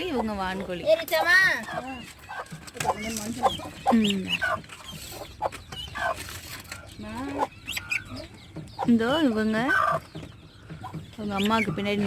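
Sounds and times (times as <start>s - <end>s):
chicks cheeping: 0.0s - 12.0s
hen clucking: 0.0s - 12.0s.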